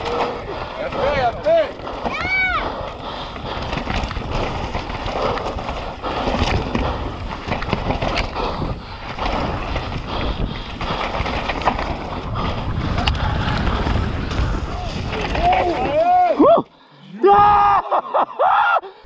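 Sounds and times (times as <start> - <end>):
wind buffeting microphone: 0.0 - 16.3
tyres skidding over dirt and stones: 0.0 - 16.4
bike rattling: 0.0 - 16.6.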